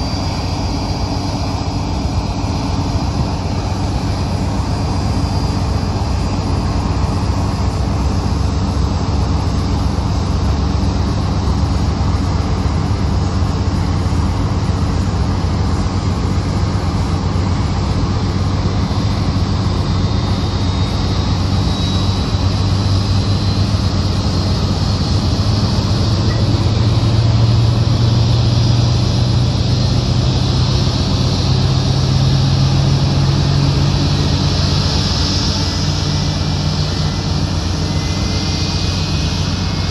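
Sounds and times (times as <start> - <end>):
jet engine spooling up: 0.0 - 39.9
loud steady rumble: 0.0 - 39.9.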